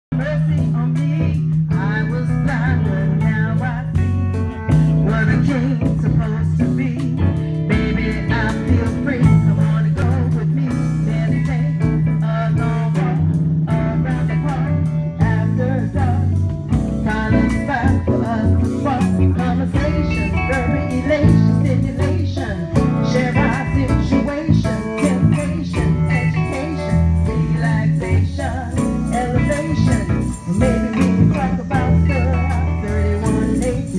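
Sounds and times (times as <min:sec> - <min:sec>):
low bass notes: 0:00.0 - 0:33.9
live band playing: 0:00.1 - 0:33.9.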